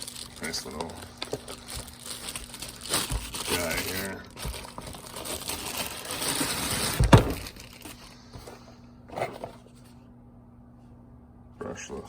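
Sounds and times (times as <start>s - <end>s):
packaging rustling and crinkling: 0.0s - 9.9s.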